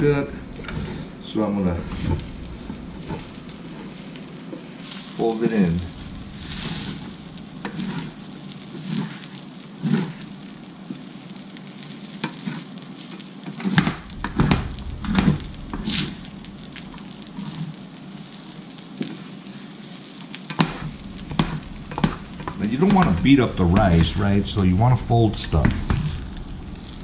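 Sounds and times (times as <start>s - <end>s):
rice and egg sizzling in pan: 0.0s - 27.0s
utensil scraping a pan: 0.1s - 10.4s, 12.2s - 17.8s, 20.5s - 27.0s.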